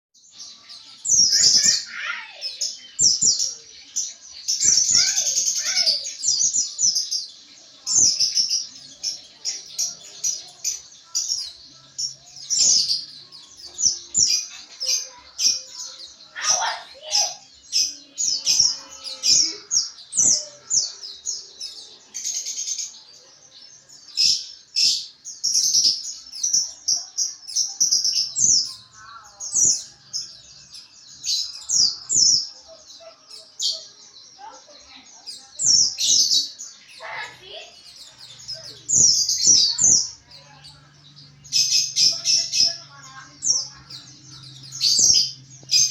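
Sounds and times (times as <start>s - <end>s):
bird twittering high chirps: 0.2s - 45.9s.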